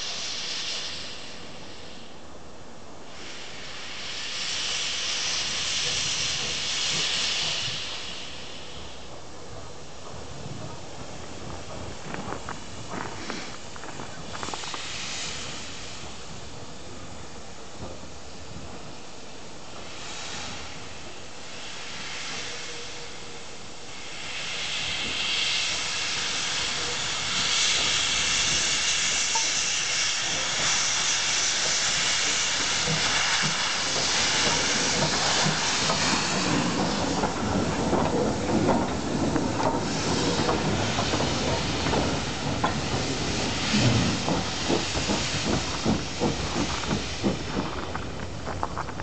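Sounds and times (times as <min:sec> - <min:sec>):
steam hissing from locomotive: 0:00.0 - 0:49.0.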